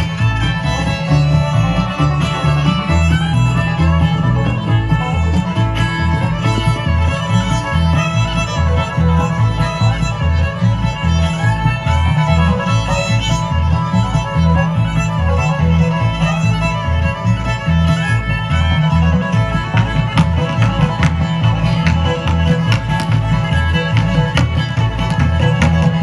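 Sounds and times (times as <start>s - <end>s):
fiddle: 0.0s - 26.0s
string band playing: 0.0s - 26.0s.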